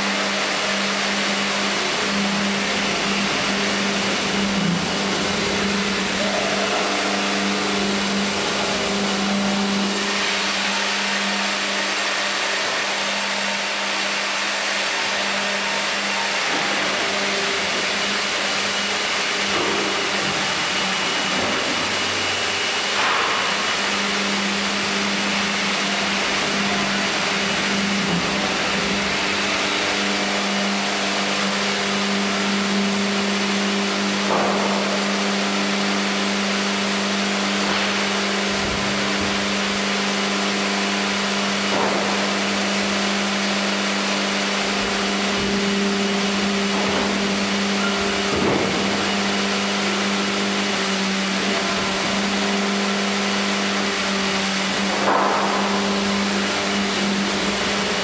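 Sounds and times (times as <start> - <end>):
sawmill machinery droning: 0.0 - 58.0
logs clunking on conveyor: 2.1 - 33.1, 34.0 - 35.5, 36.2 - 50.2, 50.8 - 58.0.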